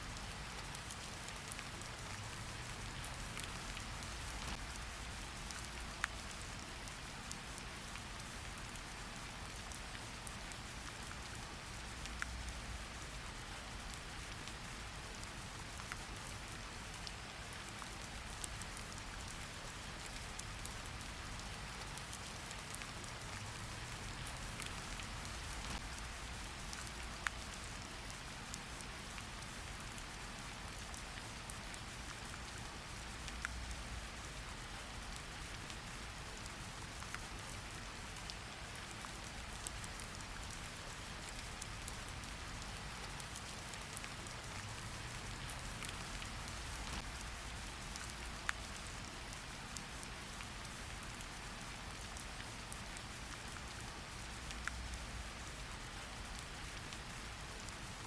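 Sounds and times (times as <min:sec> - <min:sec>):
steady rain hiss: 0:00.0 - 0:58.0
raindrop ticks: 0:00.2 - 0:57.8.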